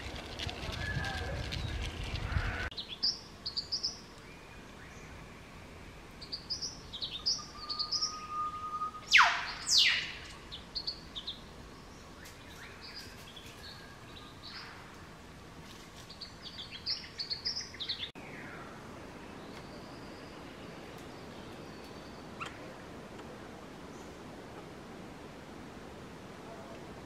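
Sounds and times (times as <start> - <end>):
wild birds chirping: 0.7 - 26.9
faint background hiss: 2.7 - 27.0.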